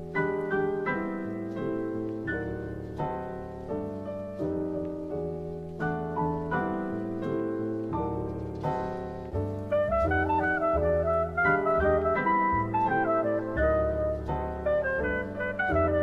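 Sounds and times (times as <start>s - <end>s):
piano background music: 0.0s - 16.0s.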